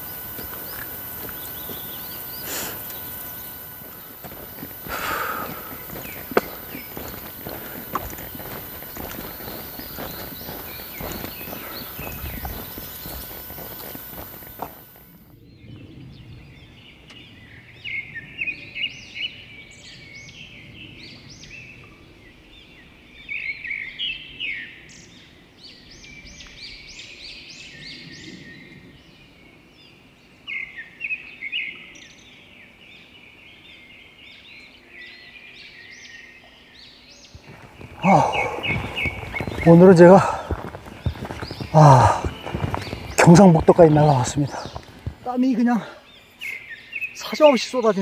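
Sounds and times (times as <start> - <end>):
songbird chirping: 0.0 - 48.0.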